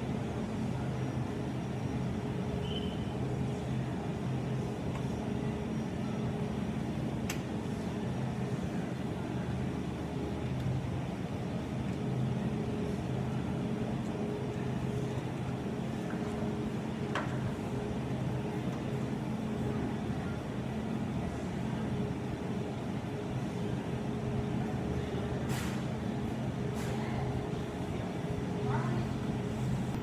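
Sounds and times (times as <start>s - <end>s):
ventilation and refrigerator hum: 0.0s - 30.0s.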